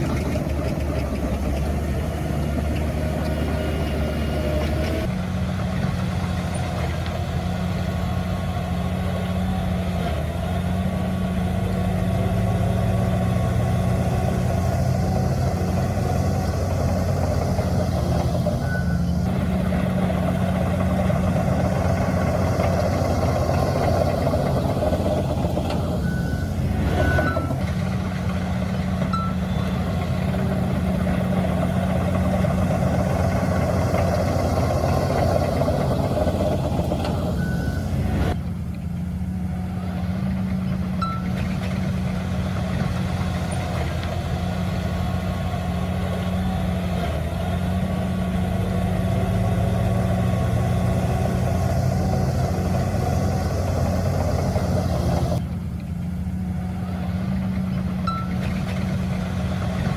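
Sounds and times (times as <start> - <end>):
heavy diesel machinery engines: 0.0 - 59.9.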